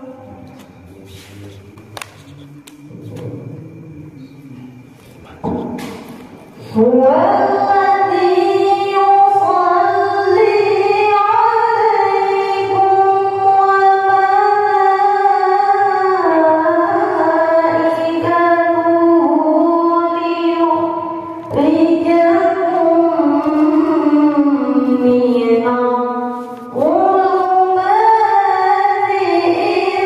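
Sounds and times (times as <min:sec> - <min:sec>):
woman reciting melodically: 0:00.0 - 0:00.6, 0:05.6 - 0:30.0.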